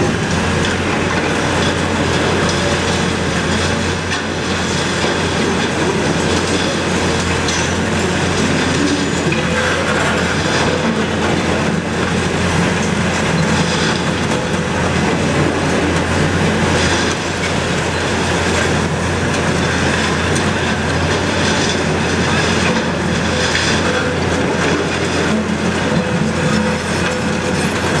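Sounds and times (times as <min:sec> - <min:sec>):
steel rollers rumbling and squealing: 0:00.0 - 0:28.0
truck engine and hydraulics hum: 0:00.0 - 0:28.0.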